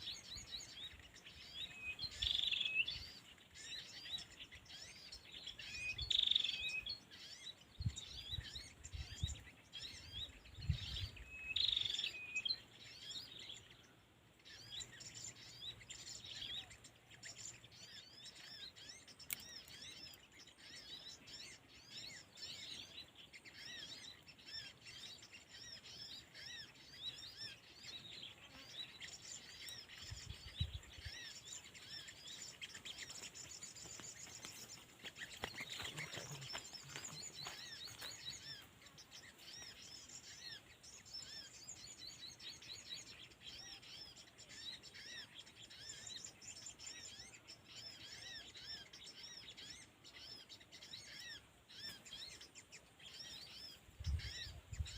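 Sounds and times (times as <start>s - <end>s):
louder bird calls: 0.0s - 54.9s
small birds chirping: 0.0s - 54.9s.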